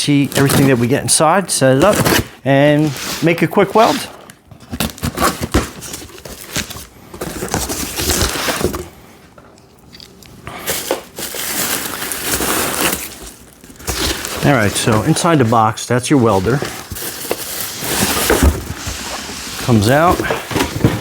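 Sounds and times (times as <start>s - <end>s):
packing material rustling: 1.6s - 9.0s, 10.5s - 21.0s.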